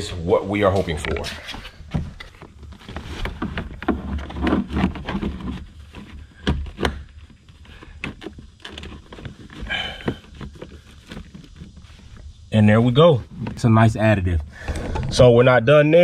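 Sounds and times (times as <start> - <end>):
scraping rustle: 0.6 - 15.3.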